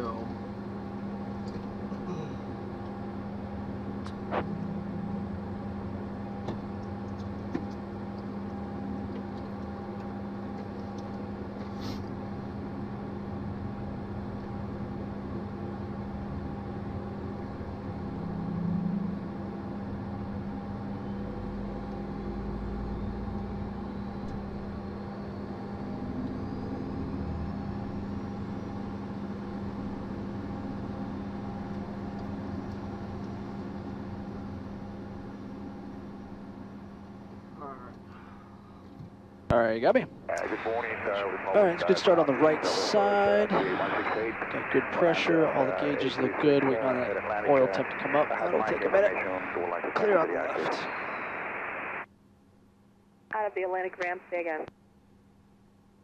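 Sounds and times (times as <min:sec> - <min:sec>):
faint rising engine whine: 0:00.0 - 0:52.1
jet engine droning hum: 0:00.0 - 0:52.1.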